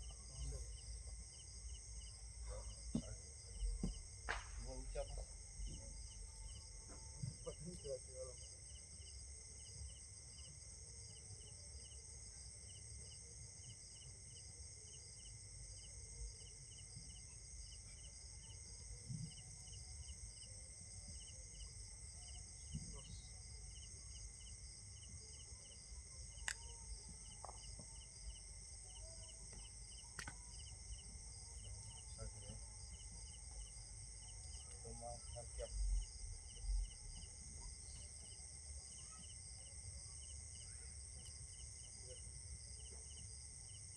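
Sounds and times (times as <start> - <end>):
insect chirping: 0.0 - 43.9.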